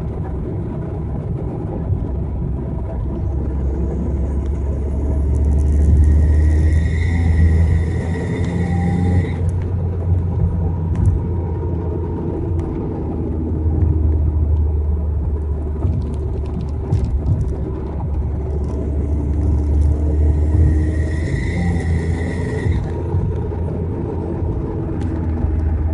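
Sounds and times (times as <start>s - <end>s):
car engine deep rumble: 0.0s - 25.9s.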